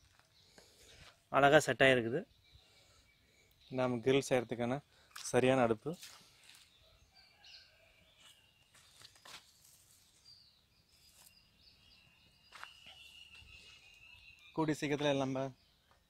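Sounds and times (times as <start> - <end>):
faint bird chirps: 0.0 - 5.2, 6.2 - 16.0.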